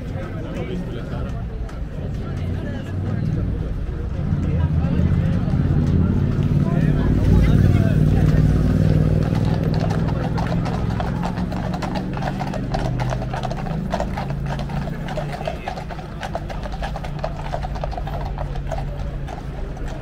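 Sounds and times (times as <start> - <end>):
crowd chatter: 0.0 - 20.0
horse hooves clopping on road: 0.0 - 20.0.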